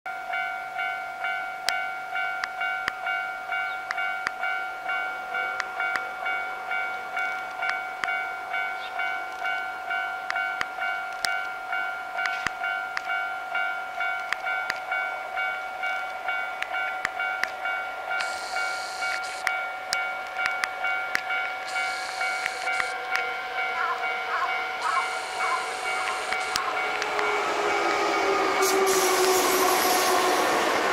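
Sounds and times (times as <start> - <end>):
level crossing bell ringing: 0.1 - 28.3.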